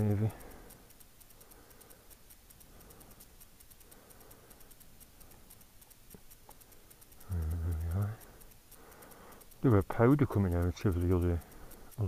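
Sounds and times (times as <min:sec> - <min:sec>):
light clicks: 0:00.0 - 0:12.0
rapid high-pitched ticking: 0:00.0 - 0:12.0.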